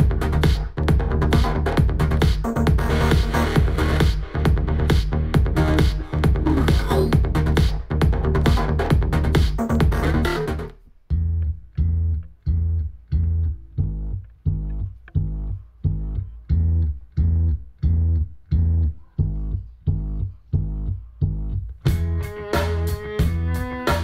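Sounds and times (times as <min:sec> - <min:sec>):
plucked bass guitar notes: 0:00.0 - 0:24.0.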